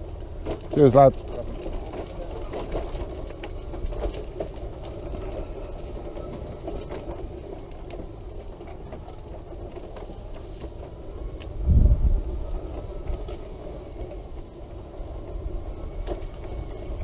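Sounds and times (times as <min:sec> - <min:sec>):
wheelchair wheels rumbling: 0:00.0 - 0:17.0.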